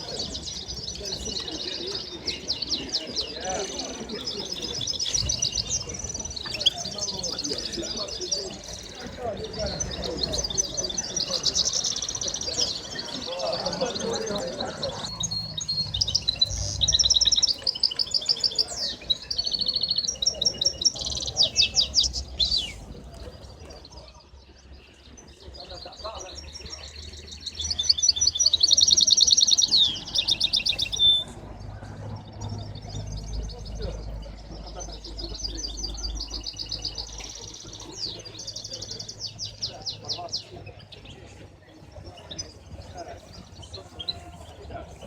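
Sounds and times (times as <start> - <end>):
songbirds trilling and chirping: 0.0 - 45.0.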